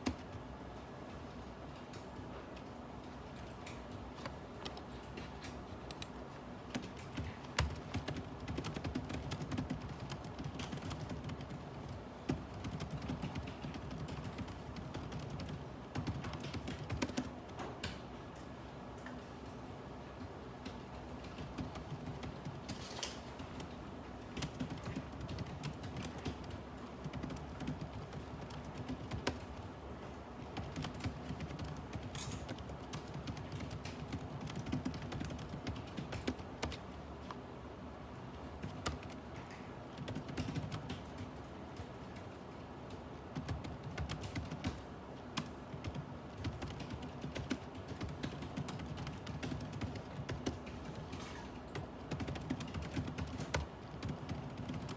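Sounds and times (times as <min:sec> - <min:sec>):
keyboard typing: 0:00.0 - 0:00.5, 0:01.7 - 0:18.0, 0:20.7 - 0:29.7, 0:30.4 - 0:37.4, 0:38.3 - 0:54.9.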